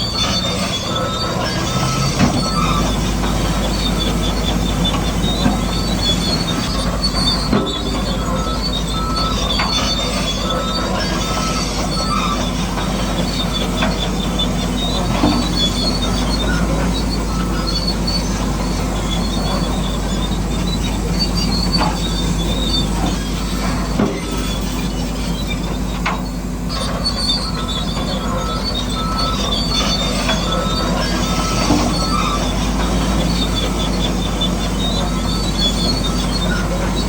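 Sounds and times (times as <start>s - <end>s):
high-pitched squealing whines: 0.0s - 37.0s.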